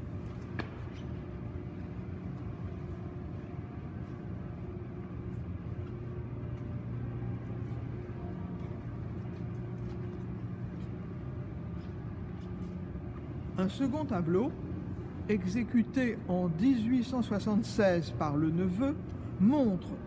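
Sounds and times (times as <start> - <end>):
low room hum and rumble: 0.0 - 20.0.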